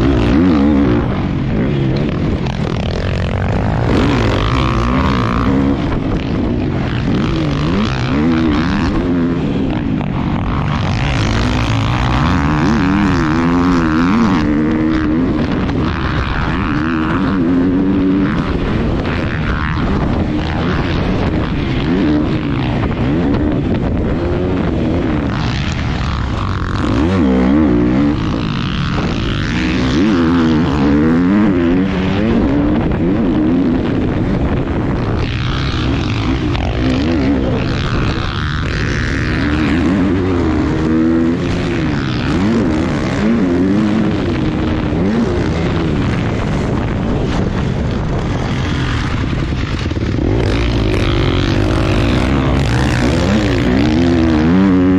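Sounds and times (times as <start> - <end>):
dirt bike engine racing: 0.0 - 54.9.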